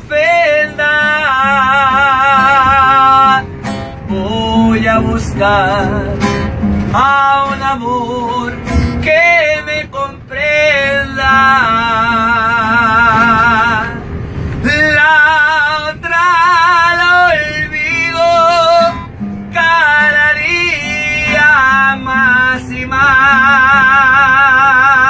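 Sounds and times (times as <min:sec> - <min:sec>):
man singing with vibrato: 0:00.0 - 0:25.0
strummed acoustic guitar: 0:00.0 - 0:25.0.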